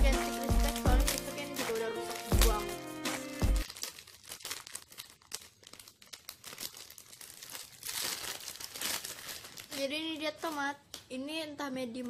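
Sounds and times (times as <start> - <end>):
plastic wrapper crinkling: 0.0 - 11.1.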